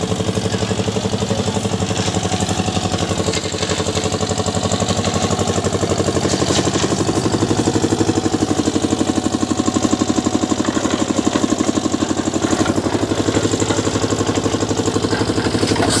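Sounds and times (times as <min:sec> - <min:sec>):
concrete mixer engine running: 0:00.0 - 0:16.0.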